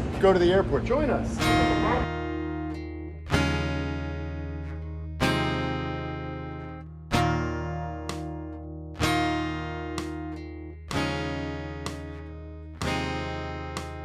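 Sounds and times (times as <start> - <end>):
strummed acoustic guitar chords: 0.0 - 14.0.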